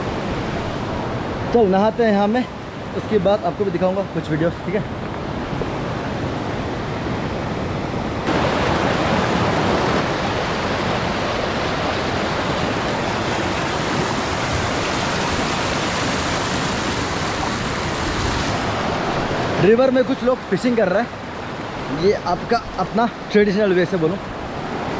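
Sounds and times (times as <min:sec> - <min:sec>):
river rushing over boulders: 0:00.0 - 0:24.9.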